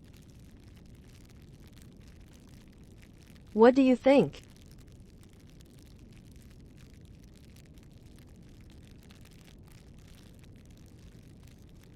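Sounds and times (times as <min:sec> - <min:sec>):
burning wood crackling and popping: 0:00.0 - 0:03.5, 0:04.4 - 0:11.9
campfire flames rumbling: 0:00.0 - 0:03.5, 0:04.4 - 0:11.9.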